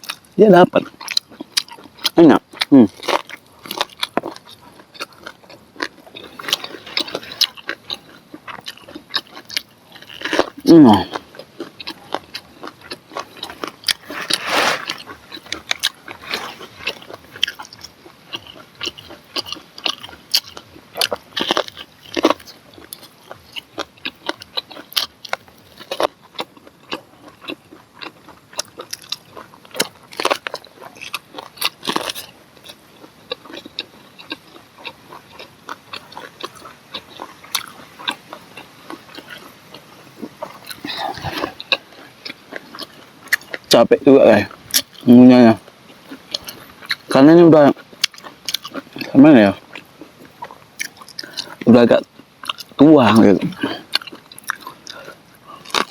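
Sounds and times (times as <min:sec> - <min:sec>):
chewing corn on the cob: 0:00.0 - 0:55.9.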